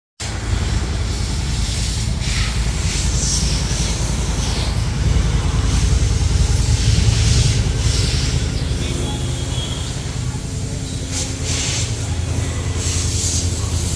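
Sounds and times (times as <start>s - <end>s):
engine running hard: 0.2s - 13.9s
high hissing noise: 0.2s - 13.9s.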